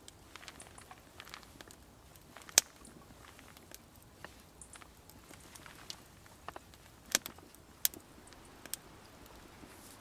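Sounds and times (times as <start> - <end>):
faint clicks and rustles: 0.0 - 10.0.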